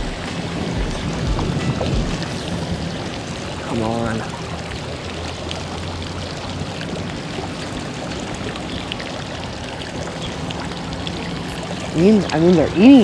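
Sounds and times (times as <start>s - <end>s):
rushing water: 0.0s - 13.0s
water drops ticking: 0.0s - 13.0s.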